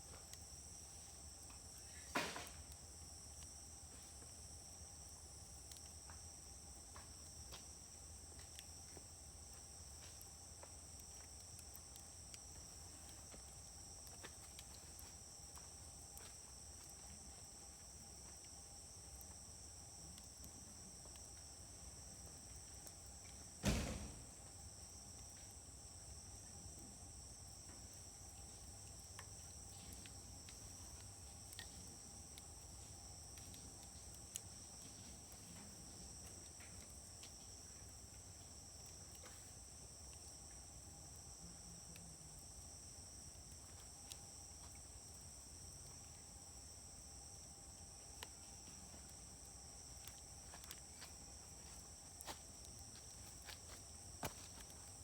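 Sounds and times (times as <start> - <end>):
insects chirring: 0.1 - 55.0.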